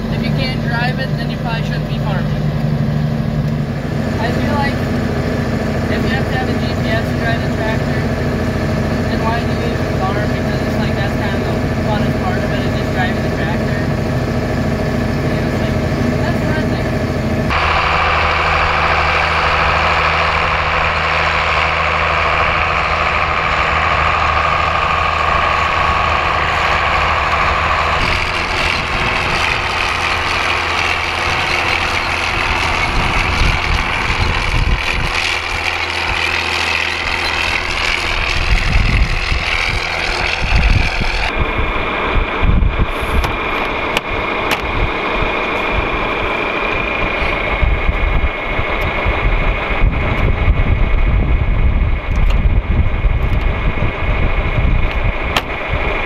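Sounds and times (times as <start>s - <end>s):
tractor diesel engine running: 0.0s - 56.0s
whine: 0.0s - 56.0s.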